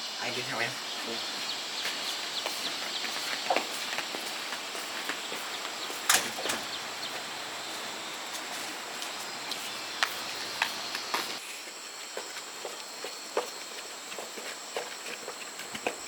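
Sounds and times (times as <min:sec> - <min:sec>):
insects droning: 0:00.0 - 0:16.0
footsteps clicking and scuffing: 0:00.8 - 0:16.0.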